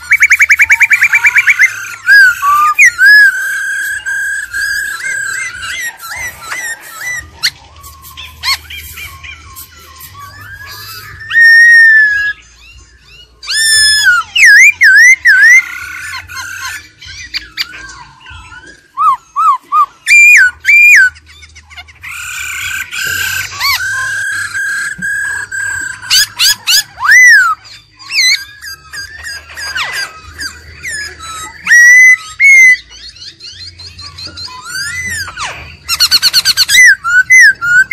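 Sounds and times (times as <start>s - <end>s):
bird singing whistled phrases: 0.0s - 21.4s, 22.0s - 37.9s.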